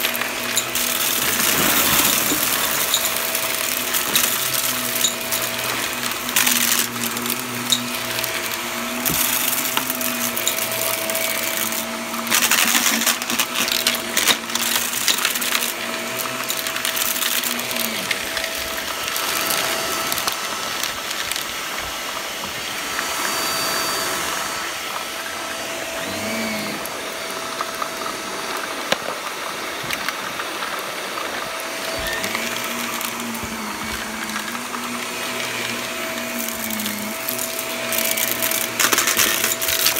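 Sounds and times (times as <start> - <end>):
debris crackling in vacuum: 0.0 - 21.6, 24.6 - 39.9
upright vacuum running on carpet: 0.0 - 39.9.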